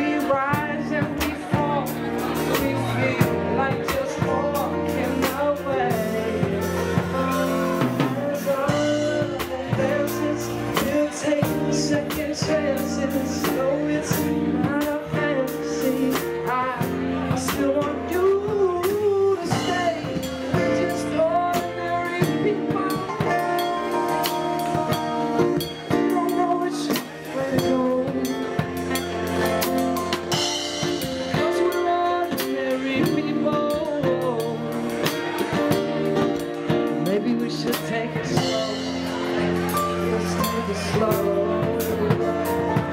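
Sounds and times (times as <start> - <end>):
drum kit: 0.0 - 42.9
electric bass: 0.0 - 42.9
person singing: 0.0 - 42.9.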